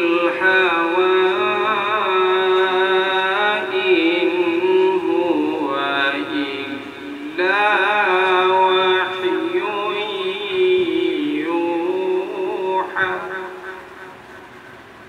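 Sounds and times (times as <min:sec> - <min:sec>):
man reciting melodically: 0:00.0 - 0:14.2.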